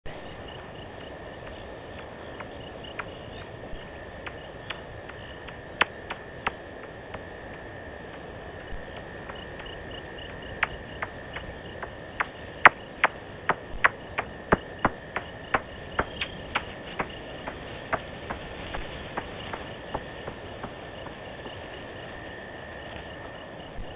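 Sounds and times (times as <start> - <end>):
insect trill: 0.1 - 23.9
bats clicking: 0.3 - 23.9.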